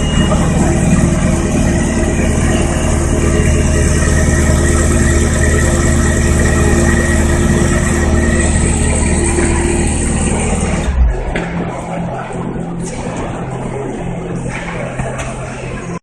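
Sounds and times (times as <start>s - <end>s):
sports car engine running: 0.0s - 15.8s.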